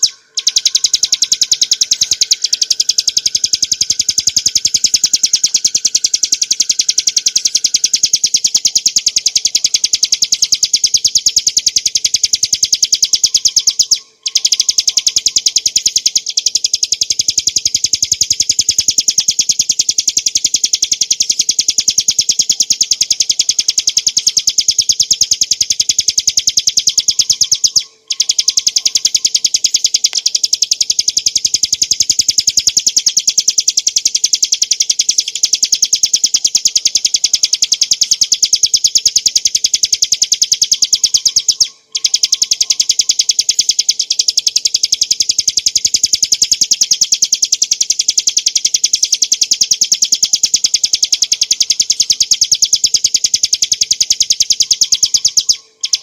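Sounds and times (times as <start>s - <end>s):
bird singing rapid high trill: 0.0s - 56.0s.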